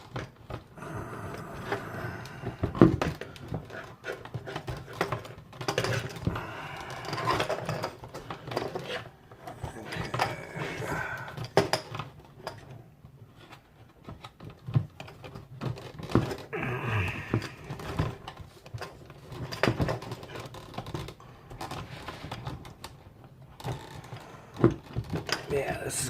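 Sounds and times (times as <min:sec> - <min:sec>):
hard parts clicking and knocking: 0:00.0 - 0:12.8, 0:13.4 - 0:25.5.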